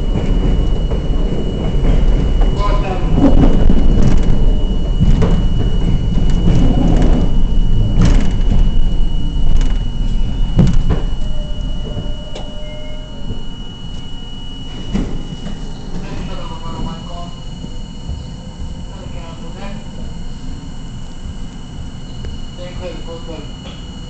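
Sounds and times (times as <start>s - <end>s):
subway car rumbling on rails: 0.0s - 24.0s.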